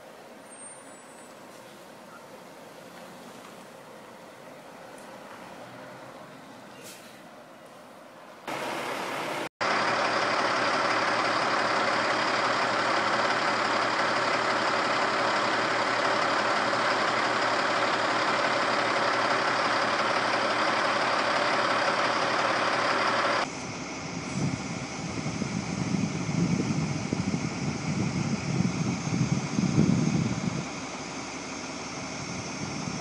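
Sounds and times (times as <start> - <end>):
diesel truck engine idling: 1.7 - 33.0.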